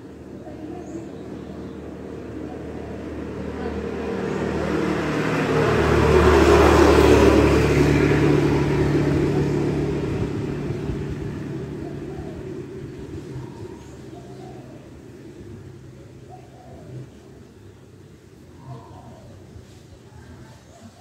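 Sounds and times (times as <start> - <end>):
motorbike passing by: 0.0 - 21.0.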